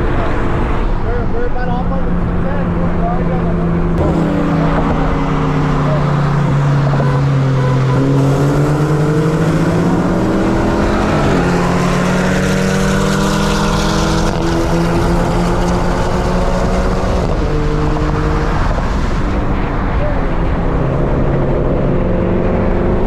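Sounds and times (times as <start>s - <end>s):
car engine accelerating: 0.0s - 23.0s
road and wind noise: 0.0s - 23.0s.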